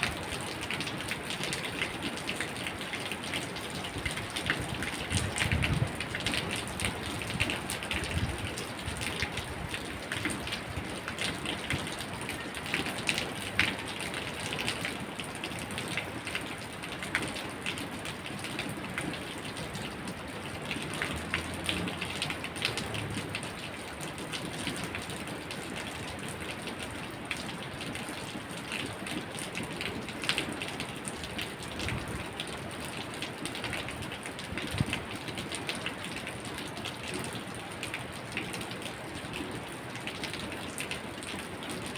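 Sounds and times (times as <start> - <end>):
rain pattering on hard surface: 0.0 - 41.9.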